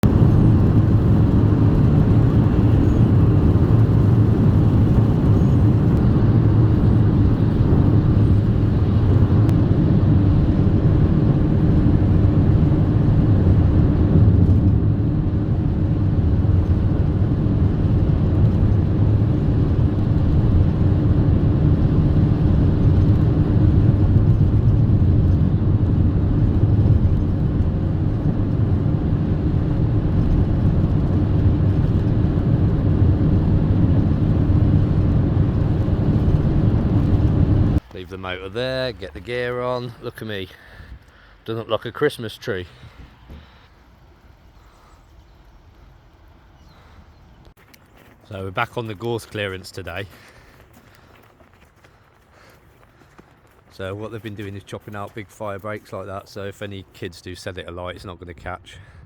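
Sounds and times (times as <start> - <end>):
car engine and road rumble: 0.0 - 55.7.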